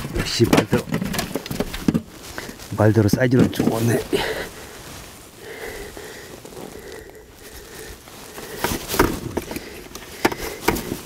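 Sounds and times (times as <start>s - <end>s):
landing net rustling: 0.0s - 11.0s.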